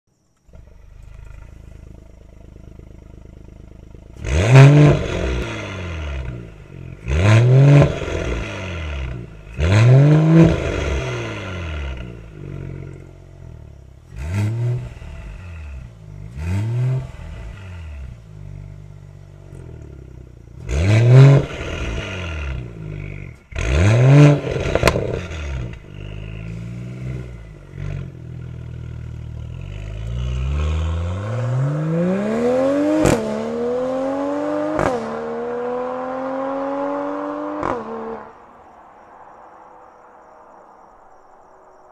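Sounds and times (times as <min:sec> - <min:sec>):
car engine idling and revving: 0:00.0 - 0:38.5.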